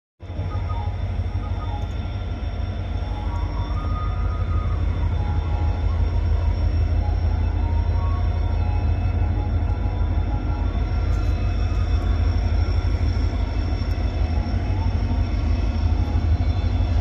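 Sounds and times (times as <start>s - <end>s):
diesel locomotives humming: 0.2s - 17.0s
faint high whining tones: 0.2s - 17.0s.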